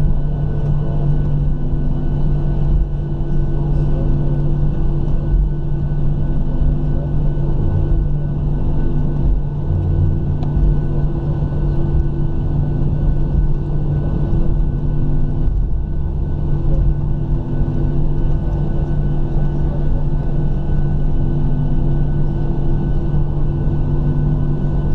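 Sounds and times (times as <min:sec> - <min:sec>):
airplane cabin rumble: 0:00.0 - 0:24.9
jet engines idling hum: 0:00.0 - 0:24.9.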